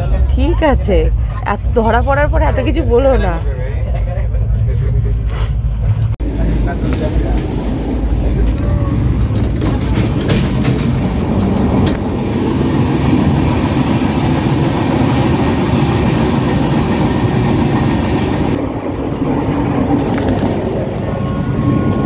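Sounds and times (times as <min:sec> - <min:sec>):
train wheels rumbling on track: 0:00.0 - 0:22.0.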